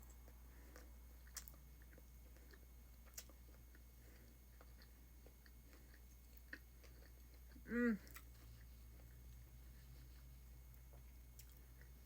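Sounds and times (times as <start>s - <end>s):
faint chewing: 0.0s - 12.0s
low steady hum: 0.0s - 12.0s.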